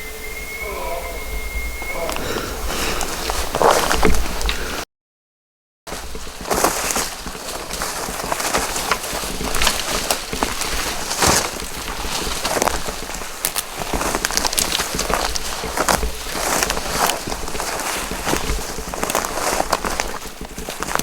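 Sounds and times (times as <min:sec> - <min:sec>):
brush and clothing rustling: 0:00.0 - 0:04.8, 0:05.9 - 0:21.0
footsteps crunching over ground: 0:00.0 - 0:04.8, 0:05.9 - 0:21.0.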